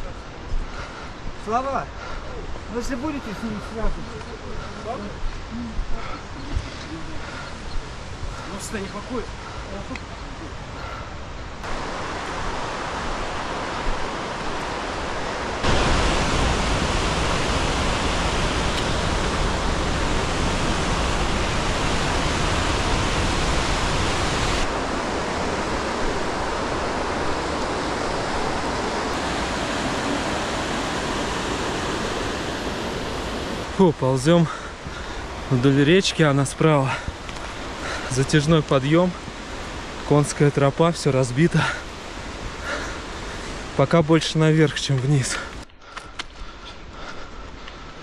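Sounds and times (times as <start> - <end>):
river water rushing: 2.4 - 45.7.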